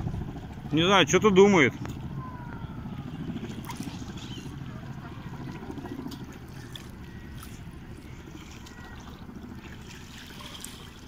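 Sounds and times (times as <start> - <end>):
waves lapping at shore: 0.4 - 11.0.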